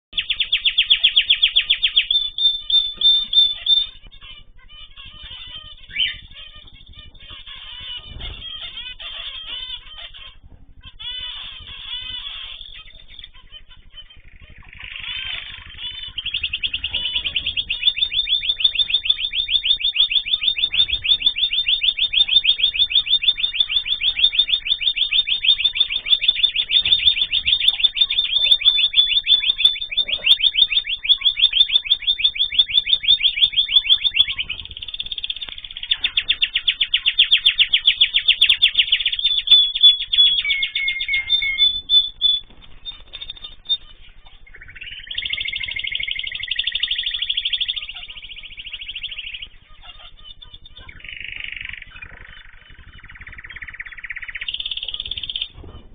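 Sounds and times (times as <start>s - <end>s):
songbird singing a fast trill: 0.1s - 55.6s.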